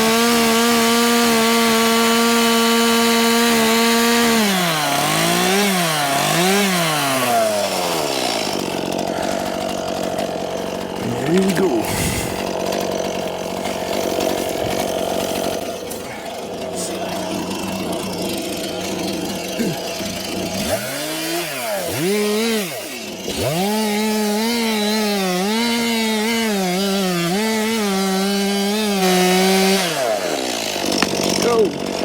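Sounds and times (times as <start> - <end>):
chainsaw revving and cutting wood: 0.0 - 32.0.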